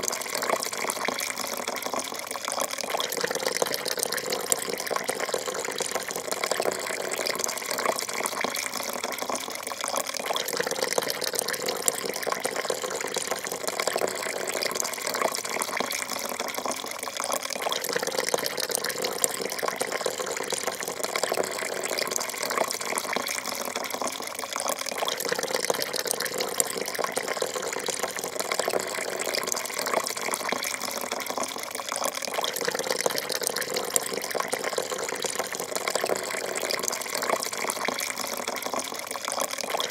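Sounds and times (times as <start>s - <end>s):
coffee pouring into cup: 0.0s - 39.9s.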